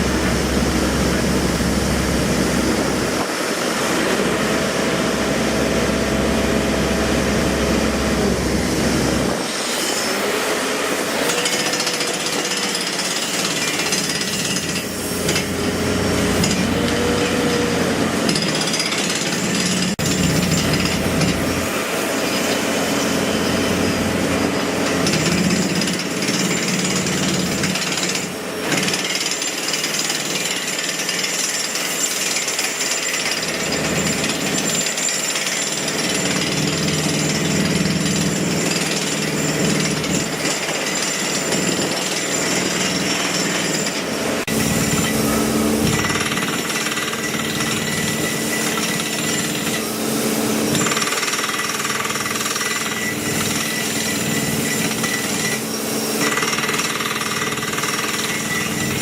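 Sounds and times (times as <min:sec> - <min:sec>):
jackhammer hammering: 0:00.0 - 0:59.0.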